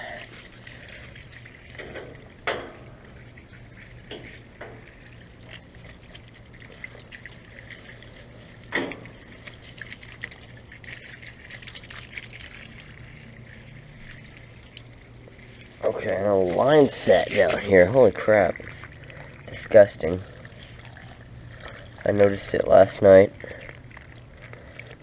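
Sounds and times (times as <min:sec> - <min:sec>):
water spraying on metal: 0:00.0 - 0:25.0.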